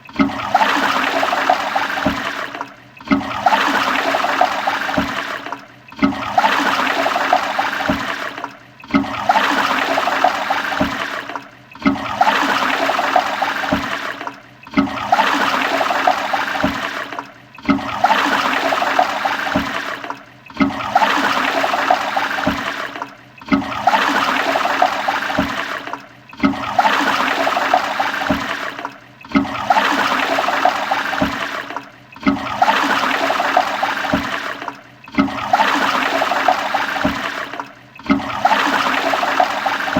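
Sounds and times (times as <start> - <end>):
toilet flushing: 0.0 - 39.9.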